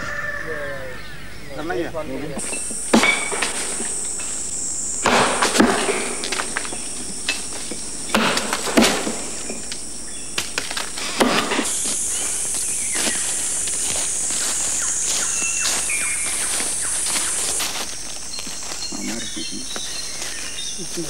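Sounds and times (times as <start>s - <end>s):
insects droning high-pitched: 0.0s - 21.0s
short crackles and rustles: 2.4s - 20.8s.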